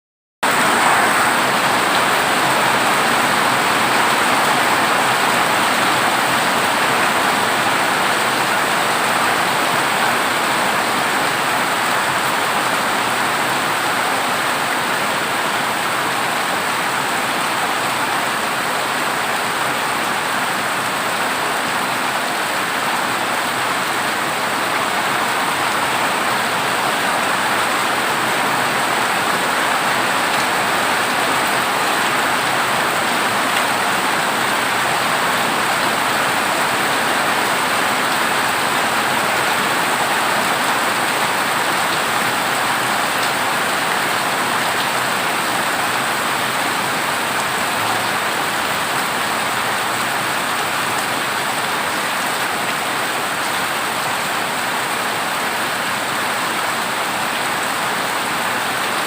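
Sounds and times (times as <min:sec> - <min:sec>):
heavy rain on a tin roof: 0:00.4 - 0:59.0.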